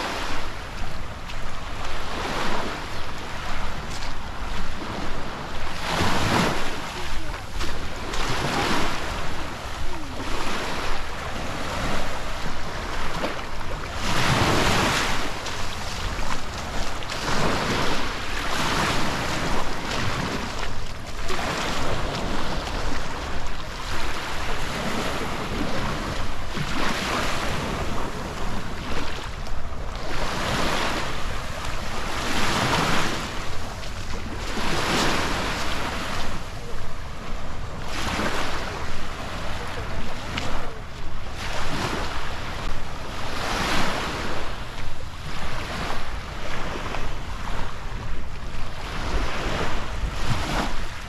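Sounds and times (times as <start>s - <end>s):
small waves breaking on shore: 0.0s - 51.0s
wind buffeting microphone: 0.0s - 51.0s.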